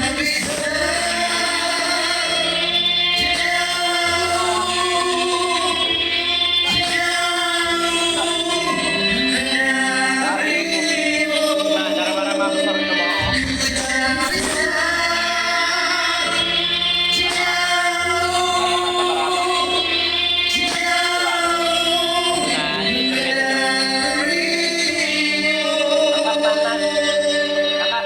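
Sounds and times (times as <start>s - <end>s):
musical accompaniment: 0.0s - 28.0s
person singing long wavering notes: 0.0s - 28.0s.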